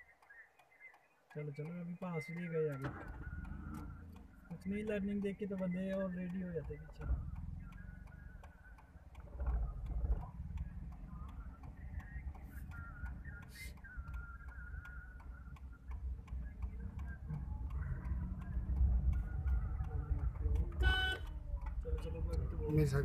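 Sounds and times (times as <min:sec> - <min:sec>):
car engine and road rumble: 0:00.0 - 0:23.0
soft regular ticking: 0:00.0 - 0:23.0.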